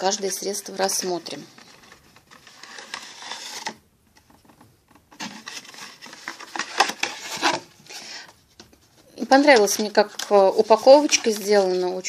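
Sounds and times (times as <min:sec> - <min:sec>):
cardboard rustling and scraping: 0:00.0 - 0:12.0.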